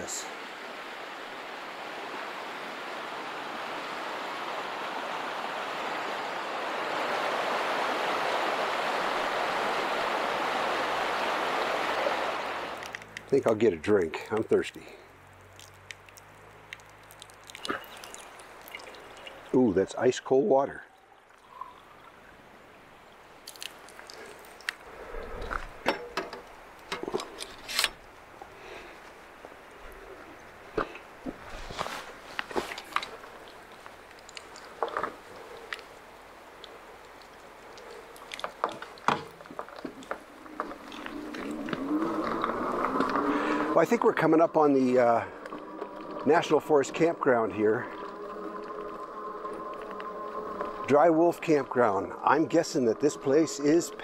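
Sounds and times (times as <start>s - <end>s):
creek rushing over rocks: 0.0s - 20.8s, 30.5s - 54.0s.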